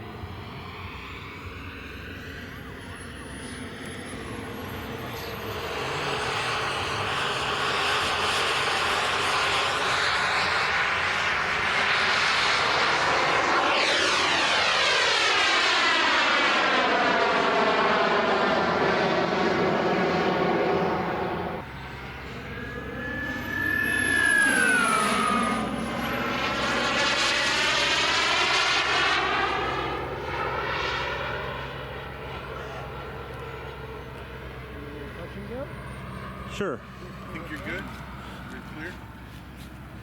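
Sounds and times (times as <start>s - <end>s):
high turbine whine: 0.0s - 40.0s
model jet flying past: 0.0s - 40.0s.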